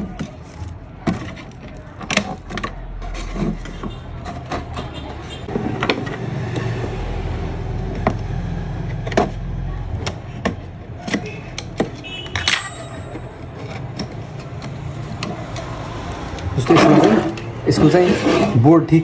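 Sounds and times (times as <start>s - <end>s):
plastic and metal parts clicking: 0.0s - 6.8s, 8.8s - 17.5s.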